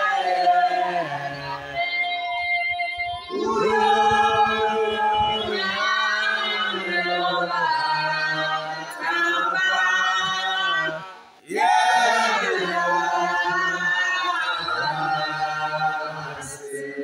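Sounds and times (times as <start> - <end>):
group singing unaccompanied: 0.0 - 17.0.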